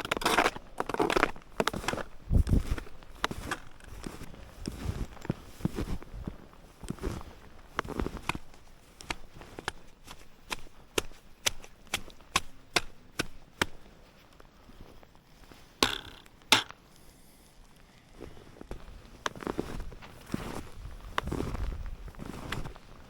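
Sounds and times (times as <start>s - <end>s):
sharp snowshoe clacks: 0.0s - 14.3s, 15.8s - 16.8s, 18.7s - 22.9s
snowshoe steps crunching in snow: 0.0s - 15.8s, 18.2s - 23.0s.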